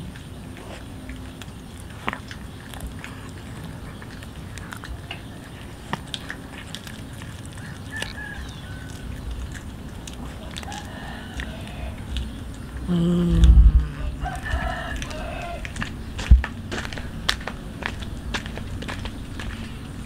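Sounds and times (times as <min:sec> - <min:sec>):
cat chewing fish: 0:00.0 - 0:20.0
teeth clicking: 0:00.0 - 0:20.0.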